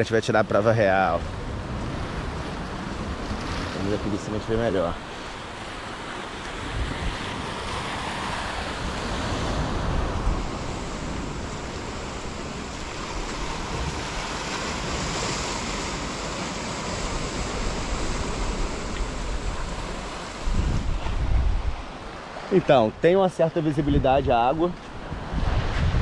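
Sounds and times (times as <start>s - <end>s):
sea waves washing on shore: 0.0s - 26.0s
wind gusting on microphone: 0.0s - 26.0s.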